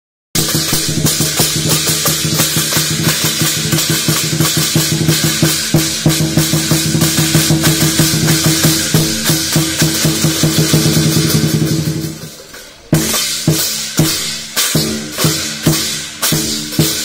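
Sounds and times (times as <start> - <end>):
cymbals crashing: 0.4 - 17.0
fast drum beat: 0.4 - 17.0.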